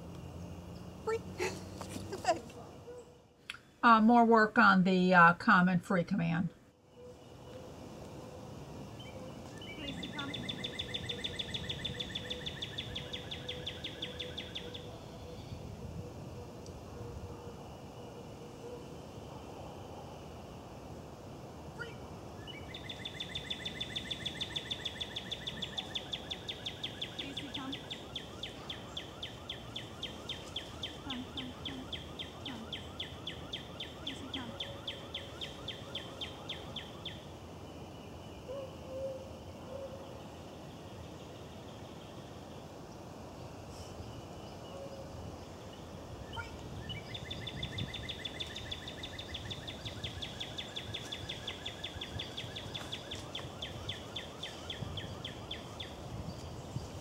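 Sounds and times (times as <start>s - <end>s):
faint outdoor background noise: 0.0s - 57.0s.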